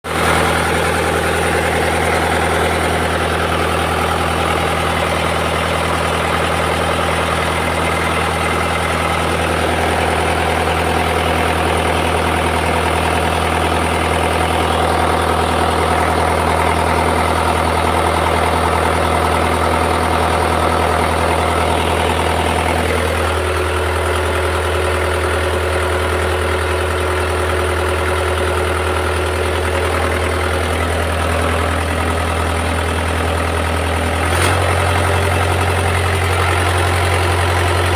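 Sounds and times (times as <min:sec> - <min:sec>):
engine running with low hum: 0:00.0 - 0:37.9.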